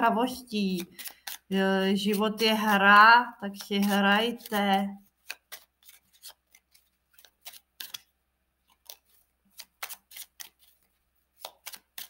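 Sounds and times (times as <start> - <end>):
cards being shuffled: 0.6 - 2.8, 3.5 - 12.0.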